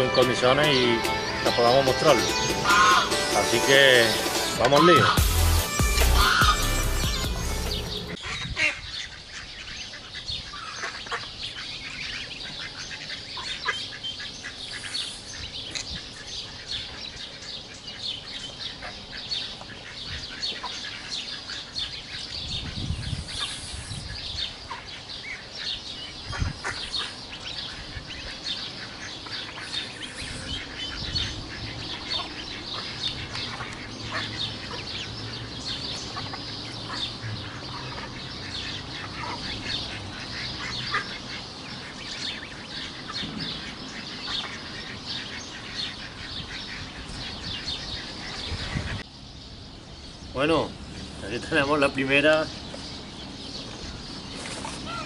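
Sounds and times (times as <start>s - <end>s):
ducklings peeping and chirping: 0.0s - 55.0s.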